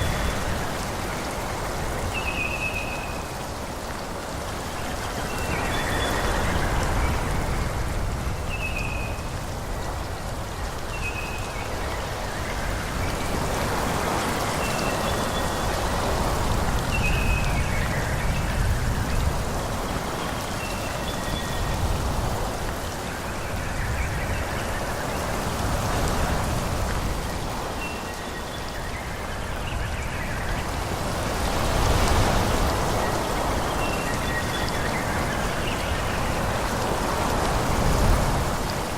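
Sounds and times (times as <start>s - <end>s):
wind rushing through trees: 0.0s - 38.9s.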